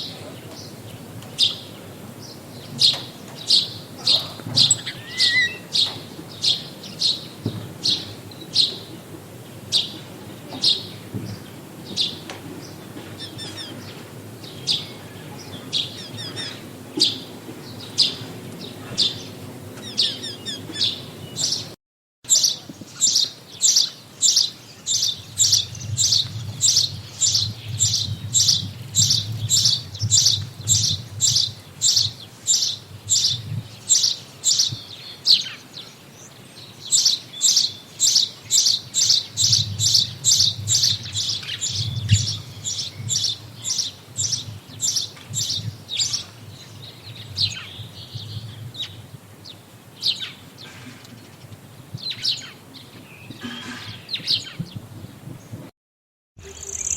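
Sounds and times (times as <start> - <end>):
songbirds chirping: 0.0 - 55.6, 56.4 - 56.9.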